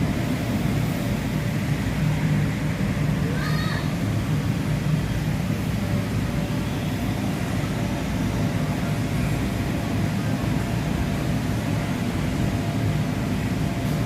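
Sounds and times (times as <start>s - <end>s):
electric blower fans droning: 0.0s - 14.0s.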